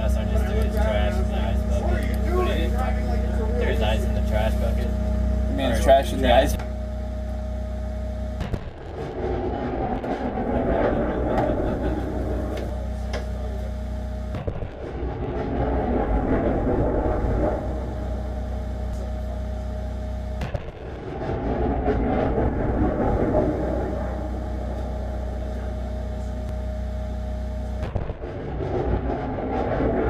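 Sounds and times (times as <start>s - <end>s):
truck diesel engine droning: 0.0s - 8.5s, 9.8s - 14.5s, 15.5s - 20.6s, 21.4s - 28.0s.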